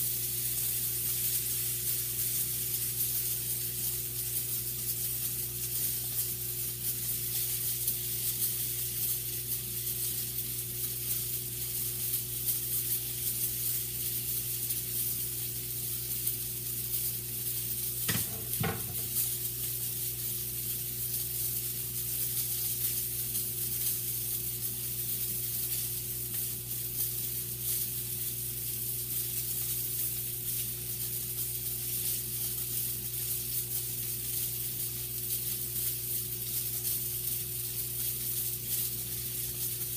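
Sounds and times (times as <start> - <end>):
sausage sizzling in a frying pan: 0.0 - 39.9.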